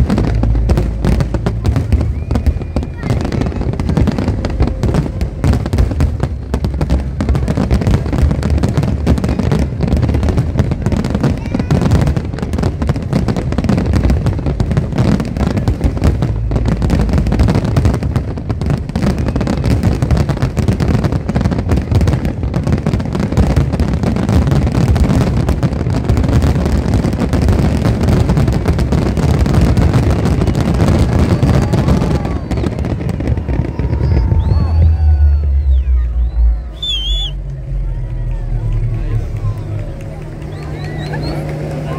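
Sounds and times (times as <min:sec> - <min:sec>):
fireworks bangs and crackles: 0:00.0 - 0:41.9
low rumble: 0:00.0 - 0:41.9.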